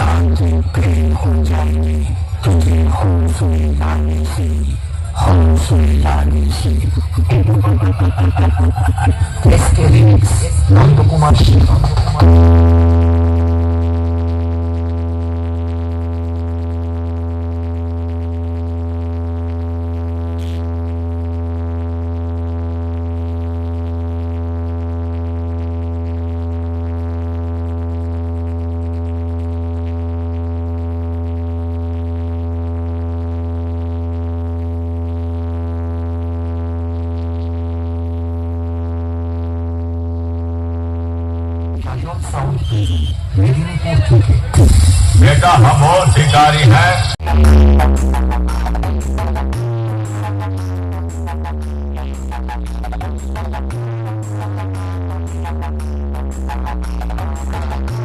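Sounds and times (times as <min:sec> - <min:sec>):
deep synthesizer bass note: 0:00.0 - 0:58.0.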